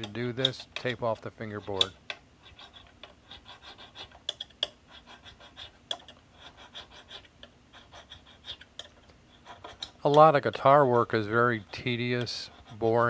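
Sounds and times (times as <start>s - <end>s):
file scraping metal frets: 0.0s - 13.0s.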